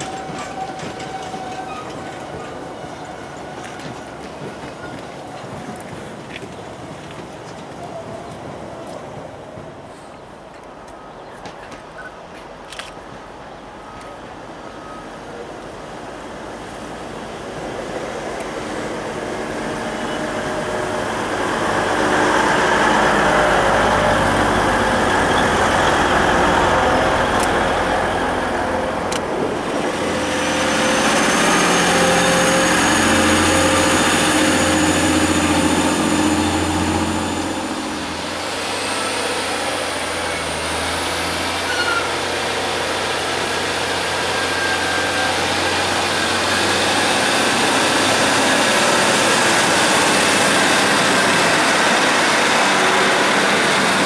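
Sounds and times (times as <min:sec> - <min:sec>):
train high whine: 0:00.0 - 0:11.2, 0:13.5 - 0:54.0
diesel train engine hum: 0:00.0 - 0:54.0.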